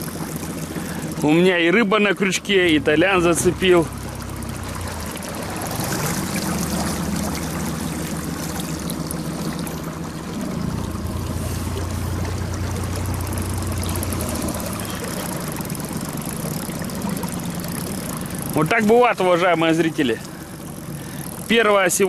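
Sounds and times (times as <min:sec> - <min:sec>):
outboard motor idling: 0:00.0 - 0:22.0
trickling and splashing water: 0:00.0 - 0:22.0.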